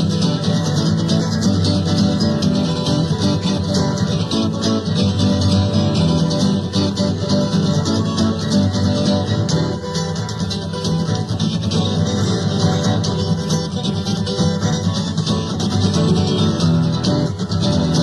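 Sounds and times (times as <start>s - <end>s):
acoustic guitars strumming: 0.0s - 18.0s.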